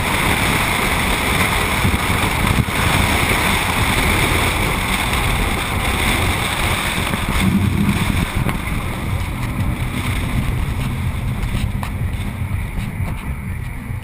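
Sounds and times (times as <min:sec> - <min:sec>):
truck road noise: 0:00.0 - 0:14.0
wind buffeting: 0:00.0 - 0:14.0.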